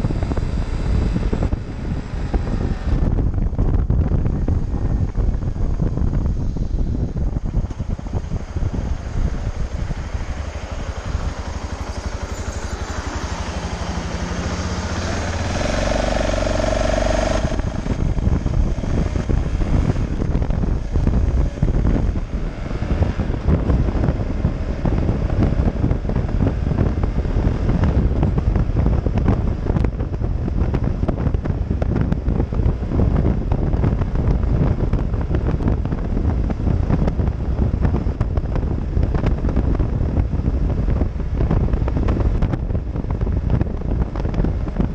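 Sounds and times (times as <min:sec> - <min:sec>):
motorcycle engine accelerating: 0:00.0 - 0:44.9
wind buffeting on microphone: 0:00.0 - 0:44.9.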